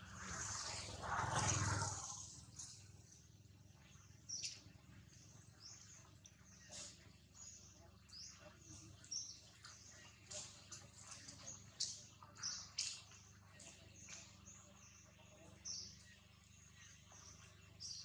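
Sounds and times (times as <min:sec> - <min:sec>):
faint high bird chirps: 0:00.1 - 0:18.0.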